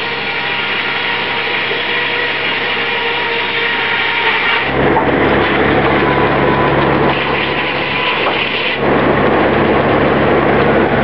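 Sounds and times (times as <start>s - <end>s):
circular saw cutting wood: 0.0s - 11.0s.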